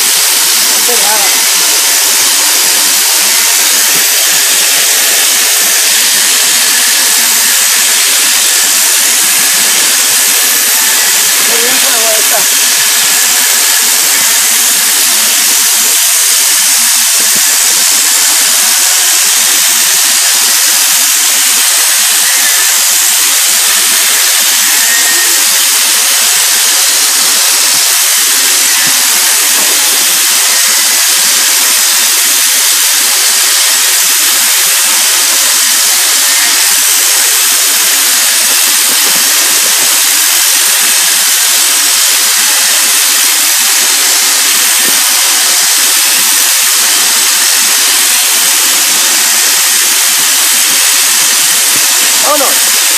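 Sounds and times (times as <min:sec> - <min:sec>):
shearing handpiece high whir: 0:00.0 - 0:52.9.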